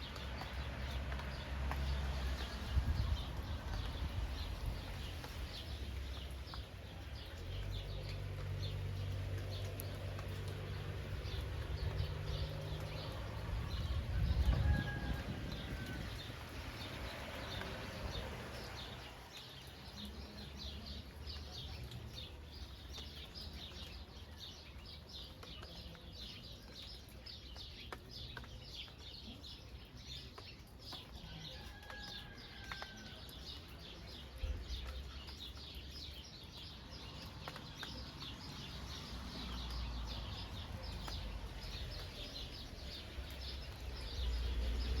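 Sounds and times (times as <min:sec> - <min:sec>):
small birds chirping: 0:00.0 - 0:14.7, 0:15.7 - 0:45.0
steady rain: 0:00.0 - 0:45.0.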